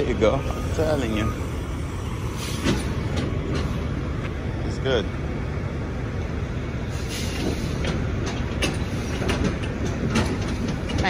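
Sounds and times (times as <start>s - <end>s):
diesel truck rumbling: 0.0s - 11.0s.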